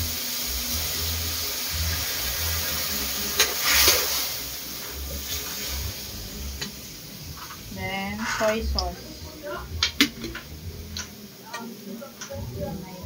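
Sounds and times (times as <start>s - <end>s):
water sizzling in hot wok: 0.0s - 13.0s.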